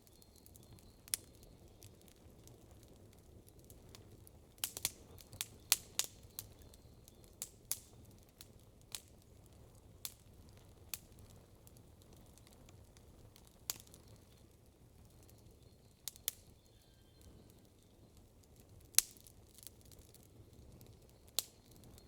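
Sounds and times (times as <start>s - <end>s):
campfire crackling: 0.0s - 22.0s
low hiss of burning fire: 0.0s - 22.0s.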